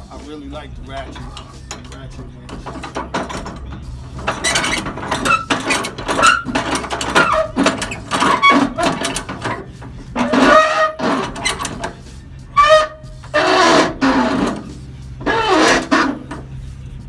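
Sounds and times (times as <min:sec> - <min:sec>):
metallic clanks: 0:00.0 - 0:16.8
winch pawl clicking: 0:00.9 - 0:16.6.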